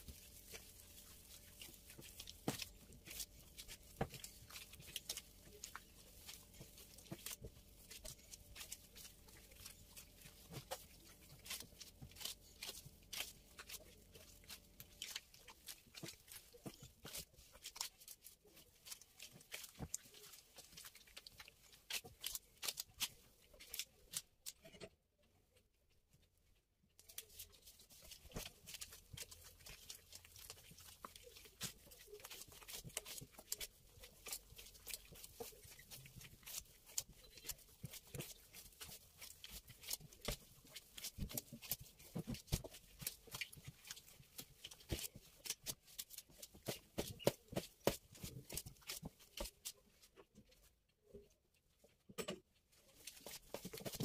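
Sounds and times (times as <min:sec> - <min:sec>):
hands slapping wet dough: 0:00.0 - 0:24.7, 0:27.0 - 0:50.5, 0:52.9 - 0:54.0.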